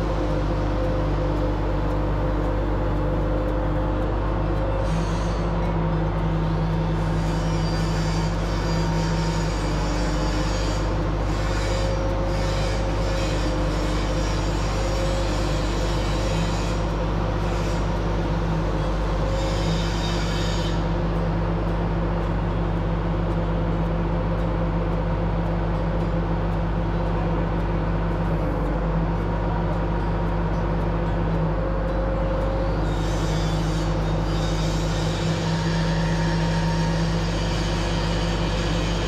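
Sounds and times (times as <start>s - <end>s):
mechanical drone: 0.0s - 39.0s.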